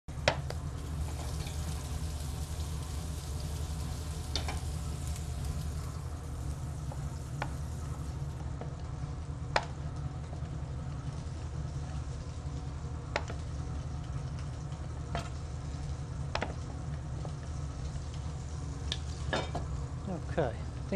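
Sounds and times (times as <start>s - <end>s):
meat sizzling in a pan: 0.1s - 10.0s, 10.6s - 20.9s
low hum: 0.1s - 20.9s.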